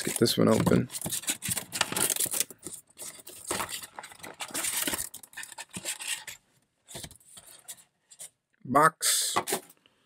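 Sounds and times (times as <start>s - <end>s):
cardboard box rustling and scraping: 0.0s - 8.3s.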